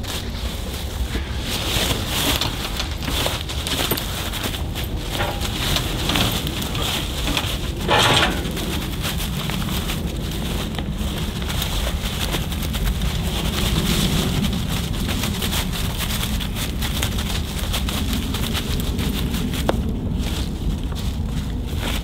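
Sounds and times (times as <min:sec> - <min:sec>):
gear being handled: 0:00.0 - 0:19.9
dry leaves crackling underfoot: 0:00.0 - 0:22.0
wind rumbling on microphone: 0:00.0 - 0:22.0.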